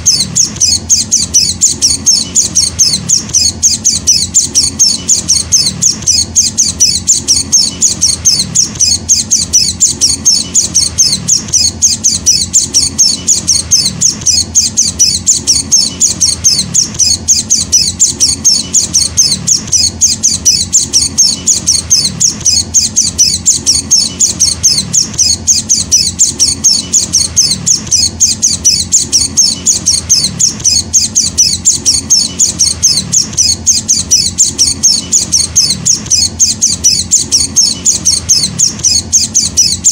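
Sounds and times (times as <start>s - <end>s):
bird chick begging chirps: 0.0s - 39.9s.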